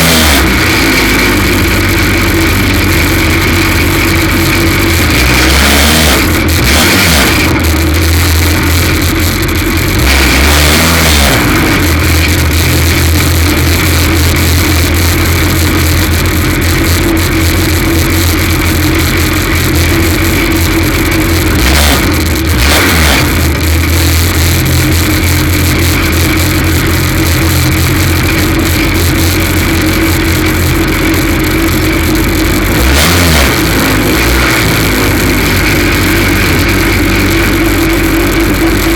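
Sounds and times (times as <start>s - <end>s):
racing car engine misfiring: 0.0s - 38.9s.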